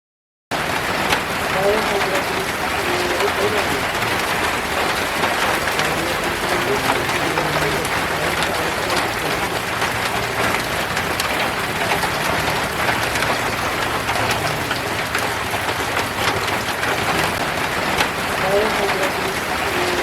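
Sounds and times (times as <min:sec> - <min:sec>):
heavy rain falling: 0:00.5 - 0:20.0.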